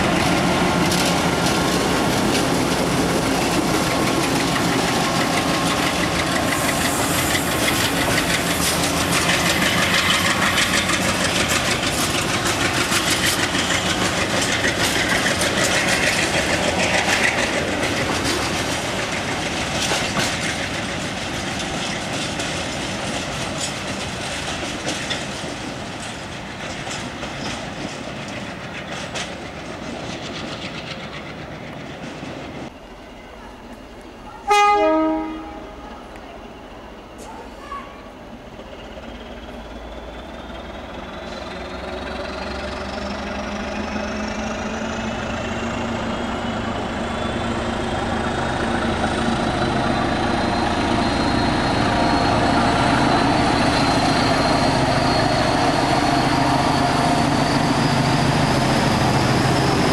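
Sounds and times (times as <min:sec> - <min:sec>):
train wheels clattering on rails: 0:00.0 - 0:32.7, 0:38.5 - 0:59.9.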